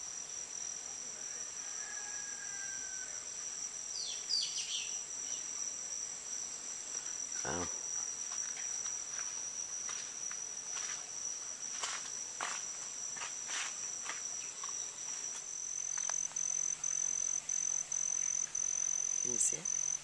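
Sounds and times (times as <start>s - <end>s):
insect trilling: 1.3s - 11.3s, 13.8s - 20.0s.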